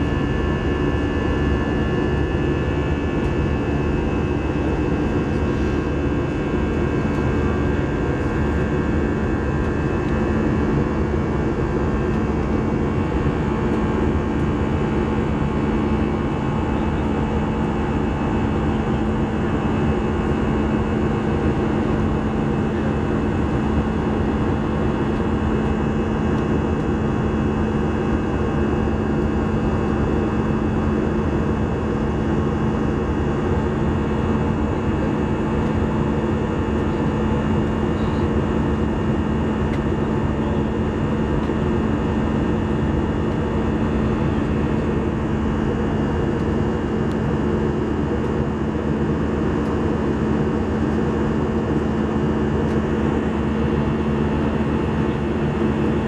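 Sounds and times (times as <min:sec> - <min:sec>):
jet engine and air roar: 0:00.0 - 0:56.0.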